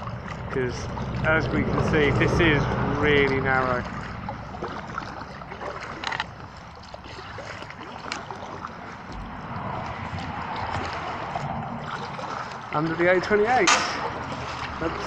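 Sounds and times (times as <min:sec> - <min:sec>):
paddle splashing in water: 0:00.0 - 0:15.0.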